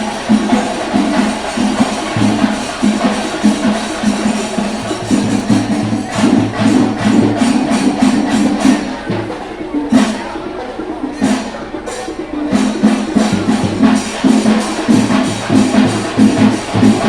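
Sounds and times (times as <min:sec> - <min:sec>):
drums beaten in fast rhythm: 0:00.0 - 0:17.0
metallic cymbal strokes: 0:00.0 - 0:17.0.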